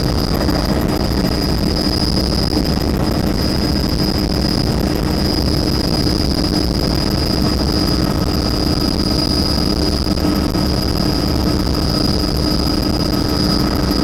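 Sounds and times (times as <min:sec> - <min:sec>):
helicopter rotor and turbine drone: 0:00.0 - 0:14.0
high whine: 0:00.0 - 0:14.0.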